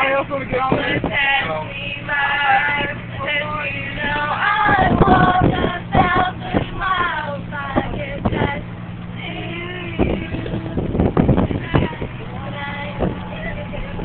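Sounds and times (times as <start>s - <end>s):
bus engine hum: 0.0s - 14.0s
girls singing unaccompanied: 0.7s - 14.0s.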